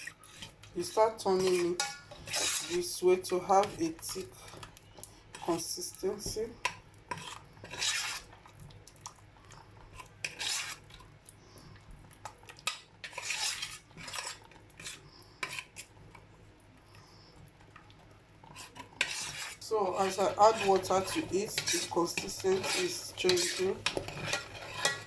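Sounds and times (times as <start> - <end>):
spoon scraping thick paste in pot: 0.0 - 8.5, 9.8 - 11.6, 12.6 - 16.0, 18.4 - 25.0.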